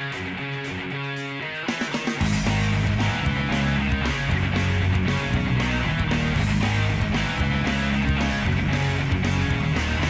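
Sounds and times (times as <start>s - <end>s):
rock music with guitar and bass: 0.0s - 10.0s.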